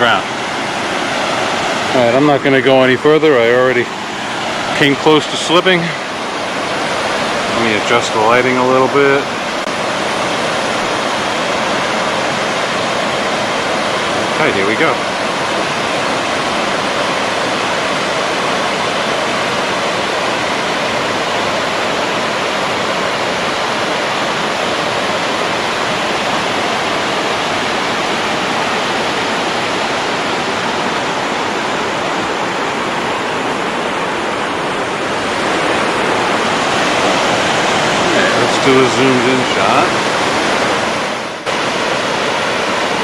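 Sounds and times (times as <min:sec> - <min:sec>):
whitewater rushing over rocks: 0:00.0 - 0:43.0.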